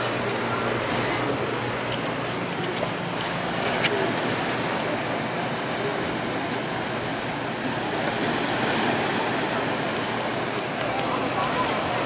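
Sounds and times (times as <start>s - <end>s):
small surf on sandy beach: 0.0s - 12.0s.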